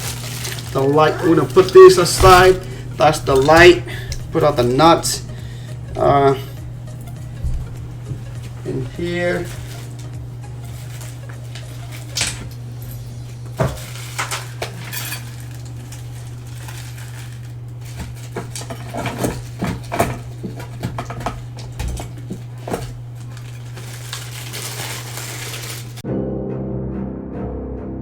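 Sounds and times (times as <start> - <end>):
nuts and screws clinking: 0.0 - 25.0
low hum: 0.0 - 25.2.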